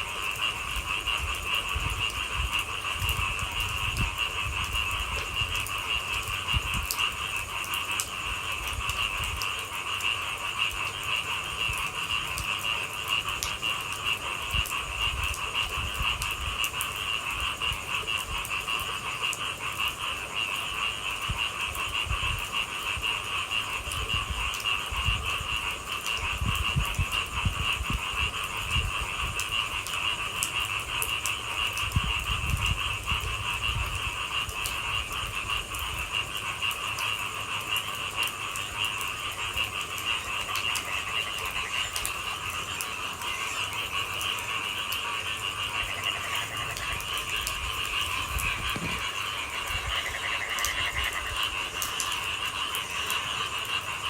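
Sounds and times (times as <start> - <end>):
frogs calling: 0.0 - 54.0
faint ticks: 0.3 - 54.0.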